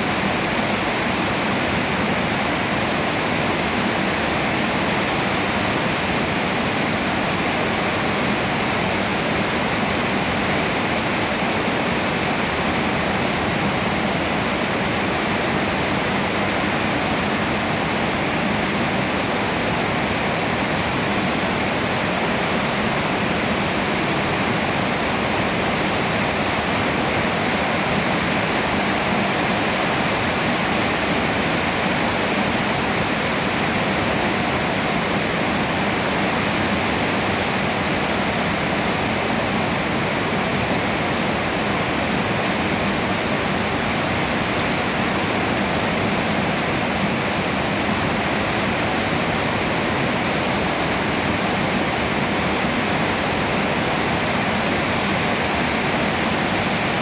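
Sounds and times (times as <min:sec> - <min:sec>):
rain on leafy trees: 0:00.0 - 0:57.0.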